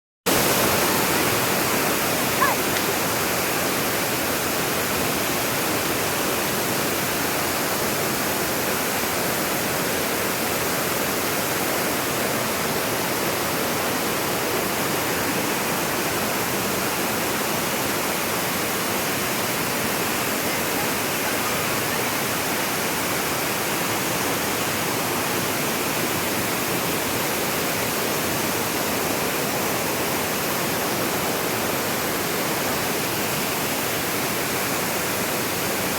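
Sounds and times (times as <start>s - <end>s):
waterfall pouring: 0.3s - 35.9s.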